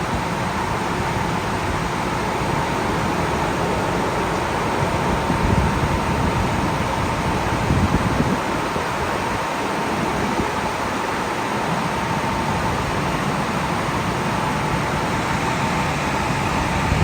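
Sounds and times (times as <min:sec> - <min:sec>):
car wash machinery rushing: 0:00.0 - 0:17.0
thin steady whine: 0:00.0 - 0:17.0.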